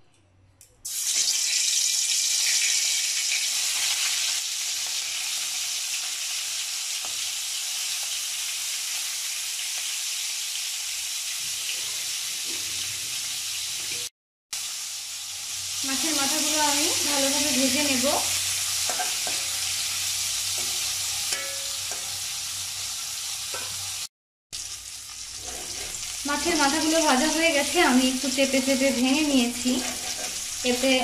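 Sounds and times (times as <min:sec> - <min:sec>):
fish sizzling in hot oil: 0:00.9 - 0:31.0.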